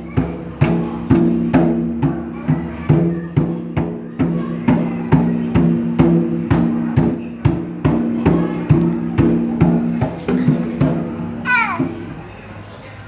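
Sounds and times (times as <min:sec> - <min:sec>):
drum beaten steadily: 0:00.0 - 0:12.5.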